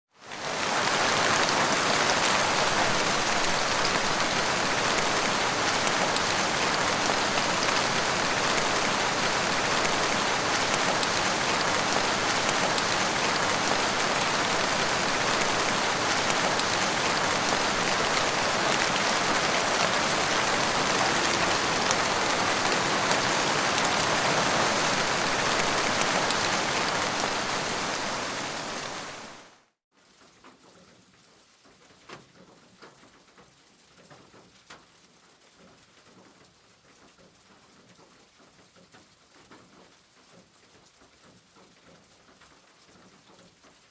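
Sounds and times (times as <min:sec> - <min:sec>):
rain falling: 0:00.1 - 0:43.9.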